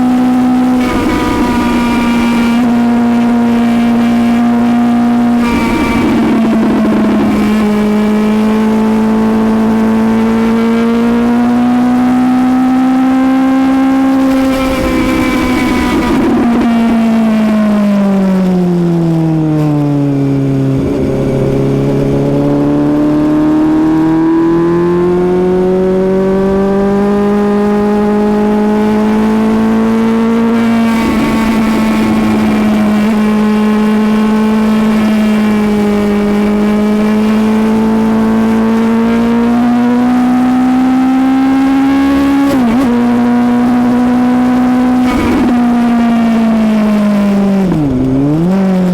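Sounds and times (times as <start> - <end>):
motorcycle engine running hard: 0.0 - 48.9.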